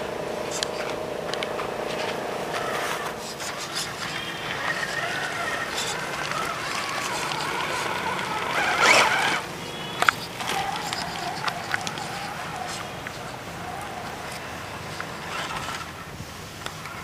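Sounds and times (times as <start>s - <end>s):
electric motor and gearbox whine: 0.0s - 17.0s
small clicks: 0.5s - 16.0s.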